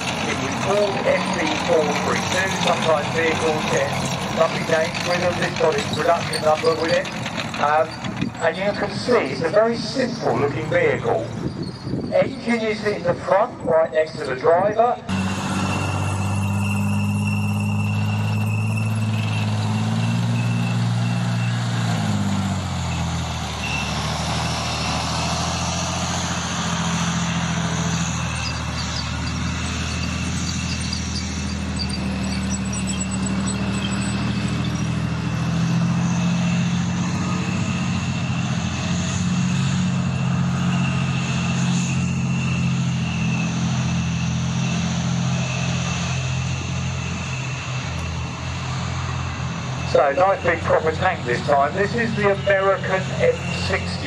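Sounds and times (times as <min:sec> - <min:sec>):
tank diesel engine running: 0:00.0 - 0:54.0.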